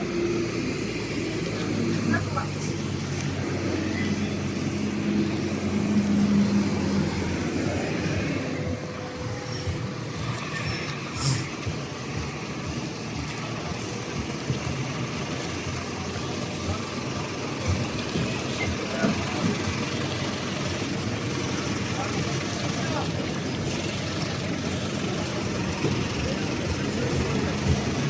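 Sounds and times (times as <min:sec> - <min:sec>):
rolling road noise: 0:00.0 - 0:28.0
vehicle motor hum: 0:00.0 - 0:28.0.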